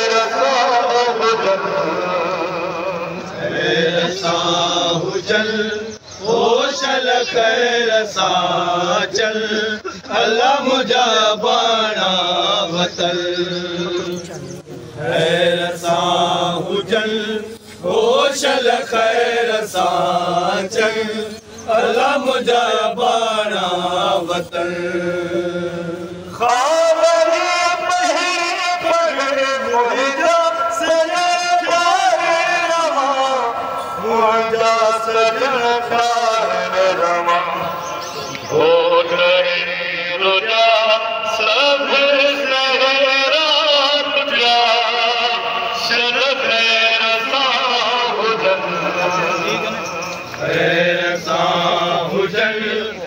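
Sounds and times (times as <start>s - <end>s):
man singing into a microphone: 0.0s - 14.3s, 15.0s - 37.8s, 38.4s - 49.7s
men singing along: 0.0s - 53.0s.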